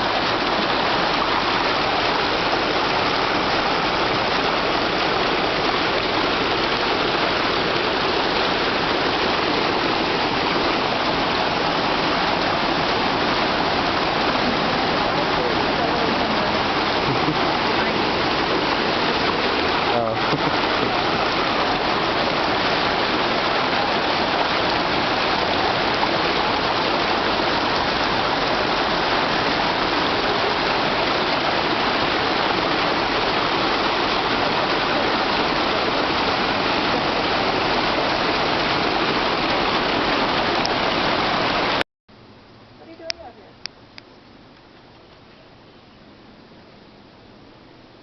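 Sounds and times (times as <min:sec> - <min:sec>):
water spilling down small waterfall: 0:00.0 - 0:41.8.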